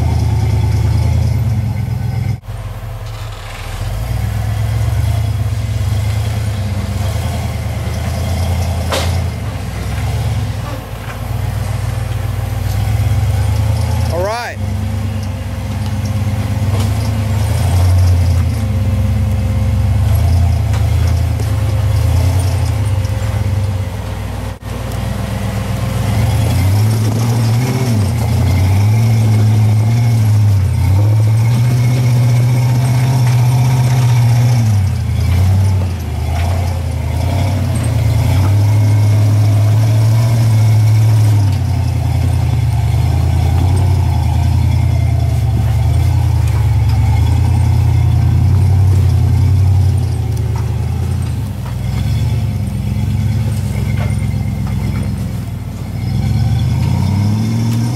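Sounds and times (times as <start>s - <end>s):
off-road engine at low revs: 0.0s - 57.9s.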